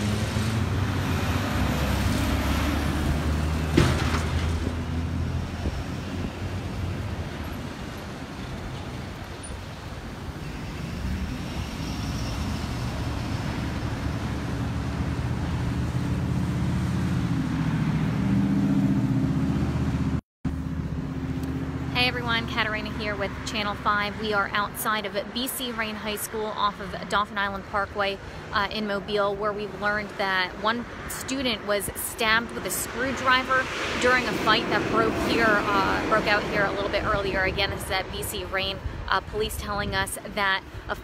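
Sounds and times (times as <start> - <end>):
motor vehicles passing: 0.0 - 41.0.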